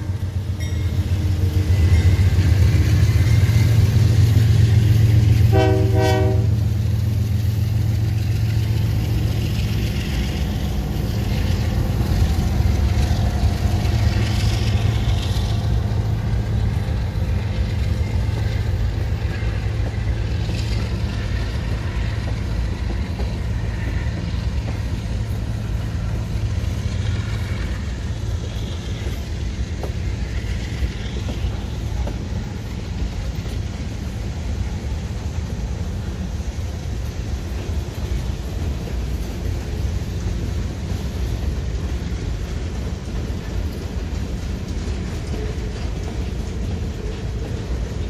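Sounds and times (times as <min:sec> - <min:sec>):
diesel locomotive passing: 0:00.0 - 0:48.0
freight train rumbling over rails: 0:00.0 - 0:48.0
train wheel squeals: 0:00.0 - 0:48.0.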